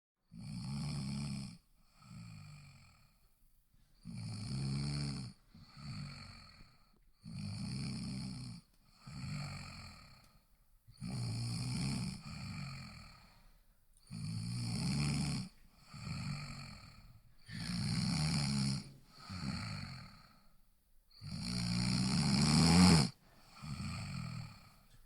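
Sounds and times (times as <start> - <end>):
person snoring: 0.3 - 3.2, 4.0 - 25.0.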